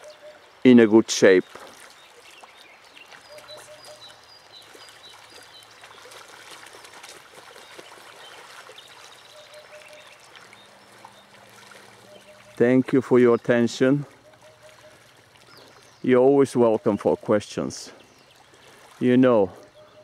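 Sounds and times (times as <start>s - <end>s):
faint bird calls: 0.0s - 20.0s
river trickling: 0.0s - 20.0s
geese splashing in water: 0.9s - 19.8s.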